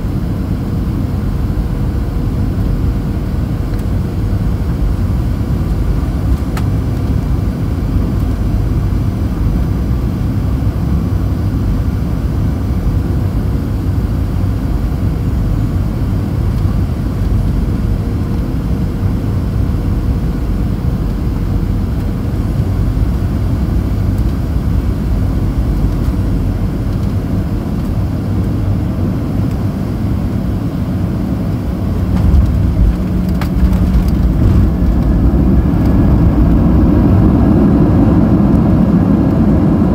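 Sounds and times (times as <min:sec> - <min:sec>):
airflow rush in cabin: 0:00.0 - 0:39.9
faint steady whine: 0:00.0 - 0:39.9
jet engines: 0:00.0 - 0:39.9.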